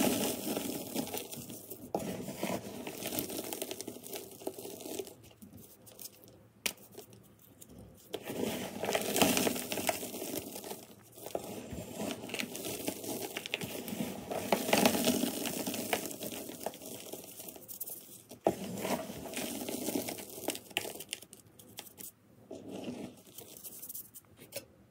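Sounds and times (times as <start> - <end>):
fingers crunching powdery chalk: 0.0 - 24.2.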